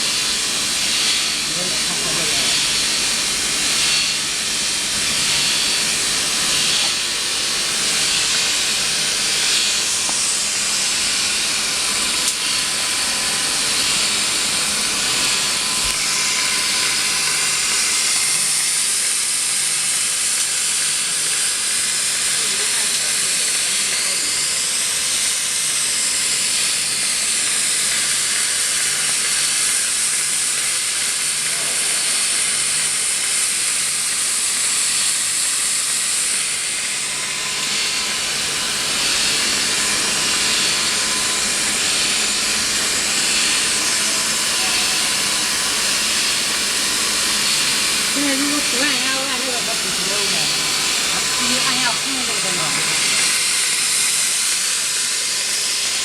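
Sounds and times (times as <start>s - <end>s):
welding arc hiss: 0.0s - 56.0s.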